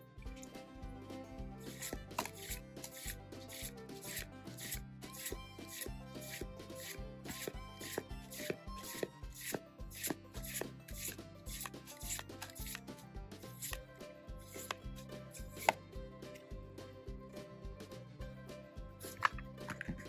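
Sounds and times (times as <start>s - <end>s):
background music with bass: 0.0s - 20.0s.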